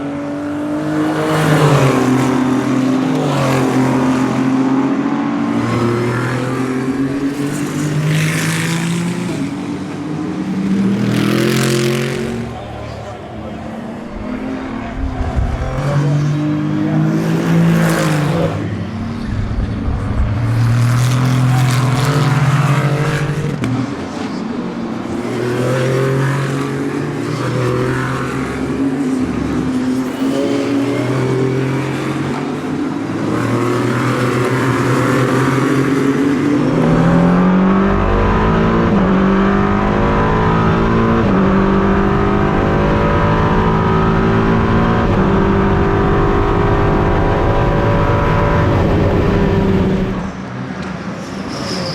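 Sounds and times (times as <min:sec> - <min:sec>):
car accelerating through gears: 0:00.0 - 0:50.4
racing cars passing: 0:00.0 - 0:51.9.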